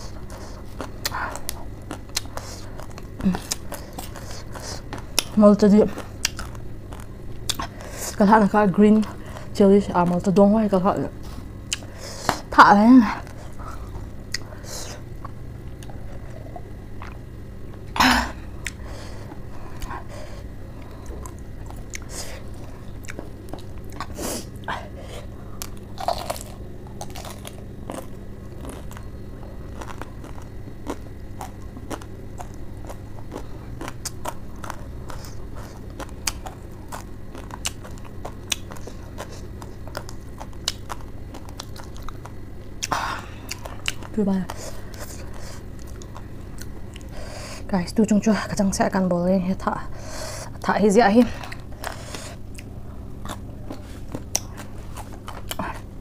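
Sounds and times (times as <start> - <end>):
chewing crunchy leaves: 0.0 - 47.6, 50.5 - 56.0.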